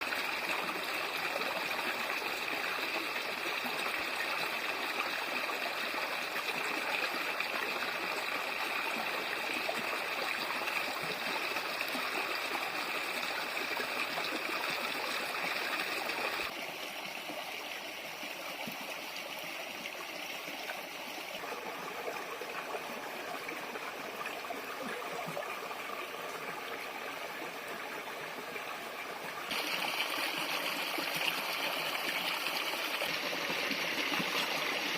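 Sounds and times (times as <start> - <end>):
running water flowing: 0.0 - 34.9.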